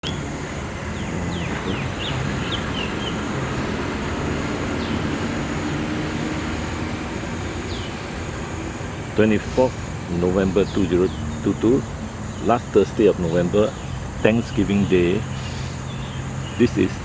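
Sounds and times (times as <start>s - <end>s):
bird chirping: 0.0s - 17.0s
distant road traffic rumble: 0.0s - 17.0s.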